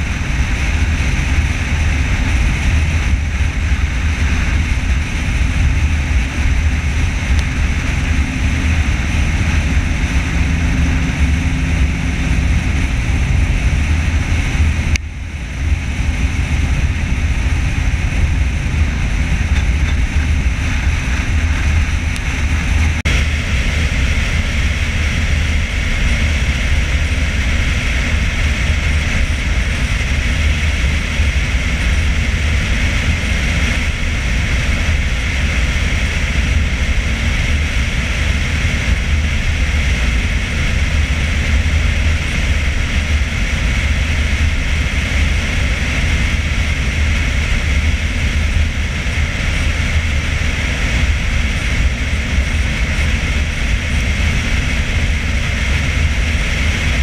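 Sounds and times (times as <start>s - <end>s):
car wind and road noise: 0.0s - 57.0s.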